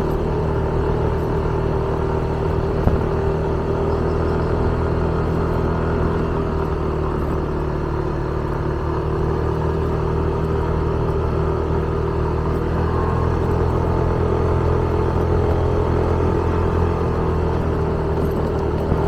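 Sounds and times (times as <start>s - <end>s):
motorbike engine running: 0.0s - 19.0s.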